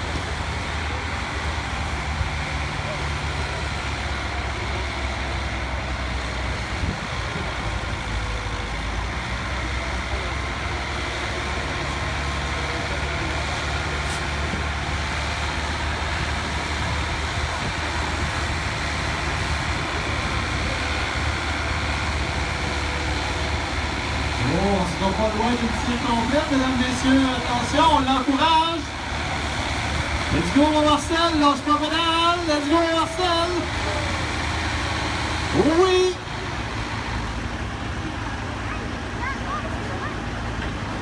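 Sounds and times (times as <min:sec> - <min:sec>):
tractor engine under load: 0:00.0 - 0:41.0.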